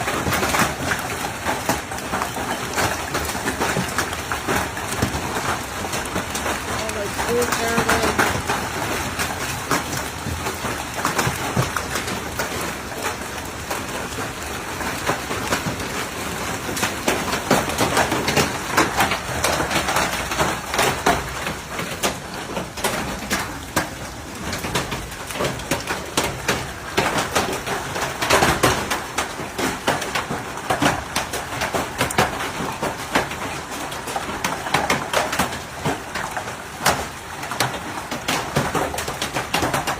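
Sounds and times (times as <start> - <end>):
hailstones striking hard surfaces: 0.0 - 39.9.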